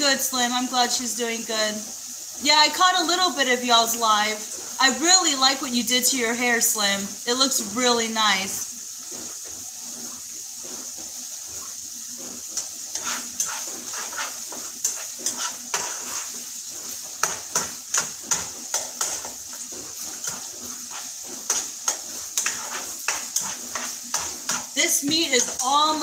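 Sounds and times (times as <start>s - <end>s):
frying sizzle: 0.0s - 26.0s
utensil scraping a pan: 2.5s - 26.0s.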